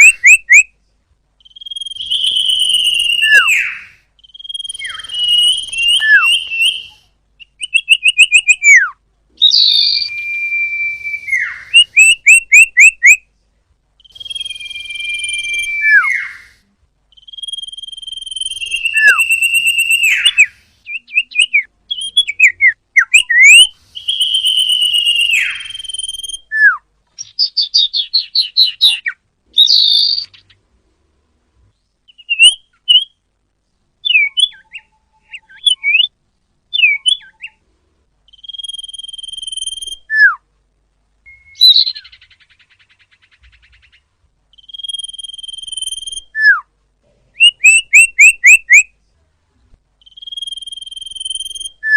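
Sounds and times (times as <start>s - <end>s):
bird singing whistled phrases: 0.0s - 0.7s, 1.4s - 13.2s, 14.0s - 30.5s, 32.1s - 33.2s, 34.0s - 36.1s, 36.7s - 37.6s, 38.3s - 40.4s, 41.3s - 46.6s, 47.4s - 48.9s, 50.0s - 51.9s.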